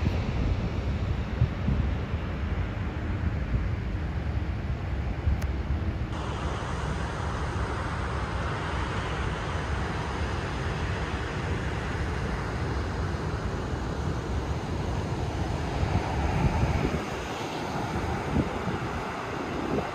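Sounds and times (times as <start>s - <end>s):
wind buffeting microphone: 0.0s - 11.4s, 14.3s - 19.9s.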